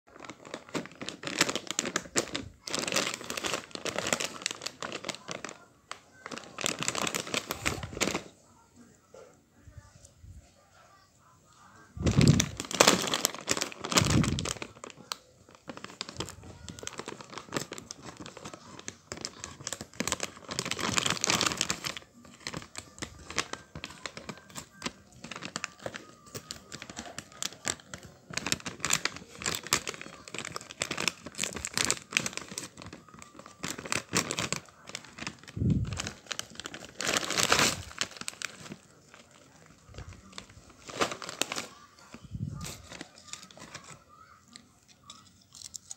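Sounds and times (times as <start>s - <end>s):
plastic bag crinkling and tearing: 0.1s - 8.3s, 12.0s - 44.5s.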